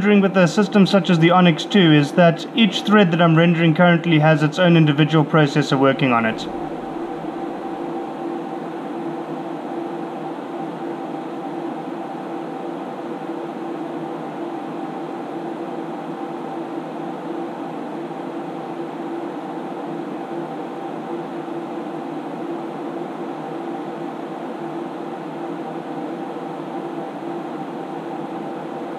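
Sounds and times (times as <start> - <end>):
computer cooling fans humming: 0.0 - 28.9.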